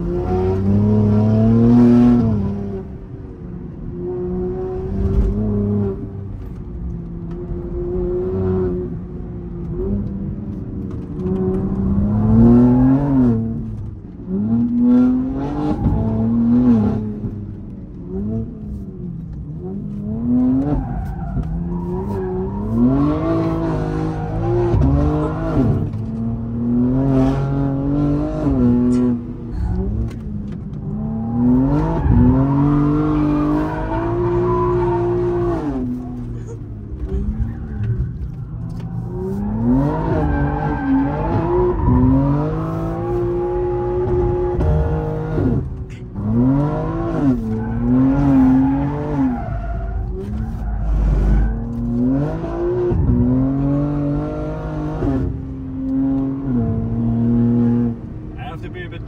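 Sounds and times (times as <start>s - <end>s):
car engine accelerating from inside cabin: 0.0s - 59.0s.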